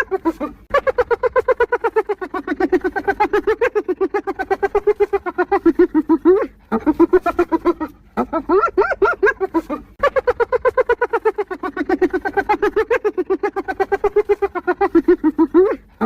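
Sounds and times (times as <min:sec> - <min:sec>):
hyena laughing: 0:00.0 - 0:16.0.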